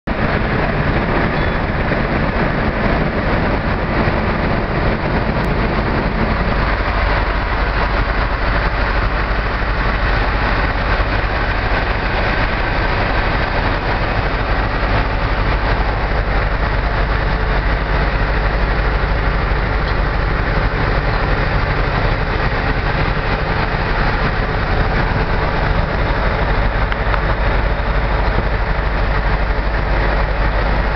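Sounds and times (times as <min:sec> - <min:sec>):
truck engine idling: 0:00.1 - 0:30.9.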